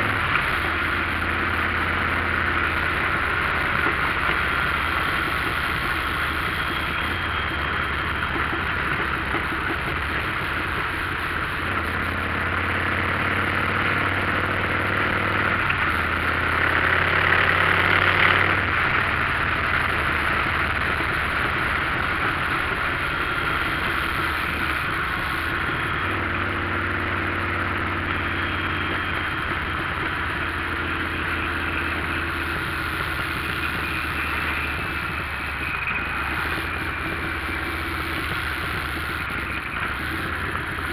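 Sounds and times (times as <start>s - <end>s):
motorcycle engine running: 0.0s - 40.9s
wind and road hiss: 0.0s - 40.9s.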